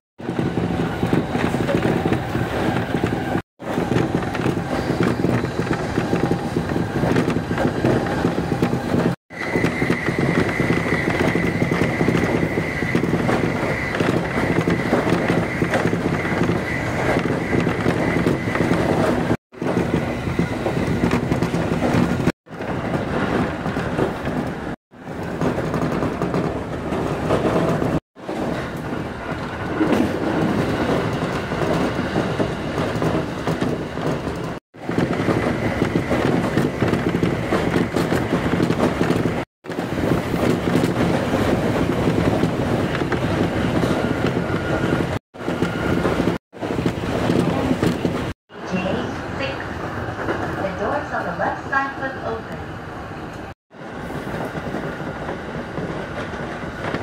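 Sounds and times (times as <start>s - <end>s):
train wheels rumbling on rails: 0.2s - 57.0s.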